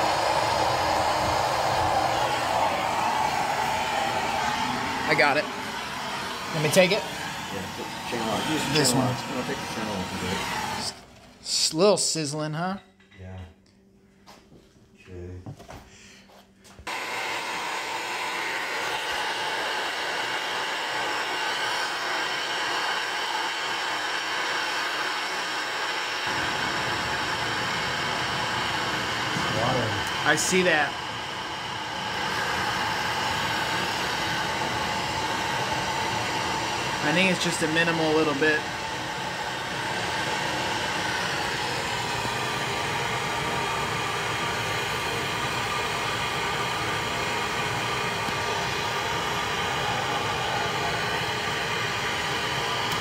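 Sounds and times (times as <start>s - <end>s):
gas torch flame hissing: 0.0s - 11.0s, 16.9s - 53.0s.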